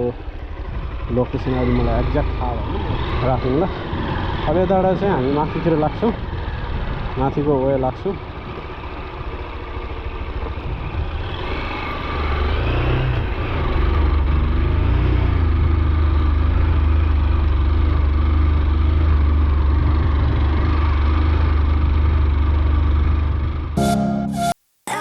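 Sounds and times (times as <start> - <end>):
motorcycle engine riding uphill: 0.0 - 23.8.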